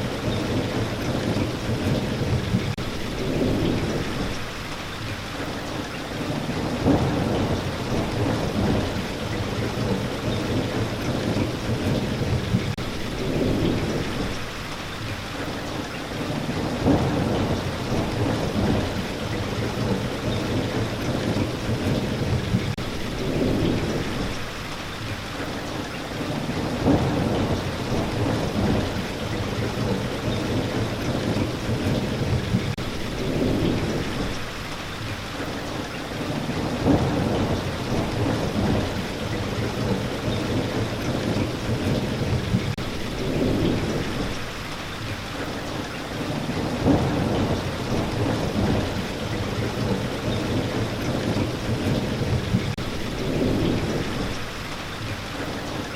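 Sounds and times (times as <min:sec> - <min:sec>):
low rolling thunder: 0:00.0 - 0:04.7, 0:06.2 - 0:14.7, 0:16.2 - 0:24.7, 0:26.2 - 0:34.8, 0:36.2 - 0:44.8, 0:46.1 - 0:54.8
steady rain falling: 0:00.0 - 0:55.9.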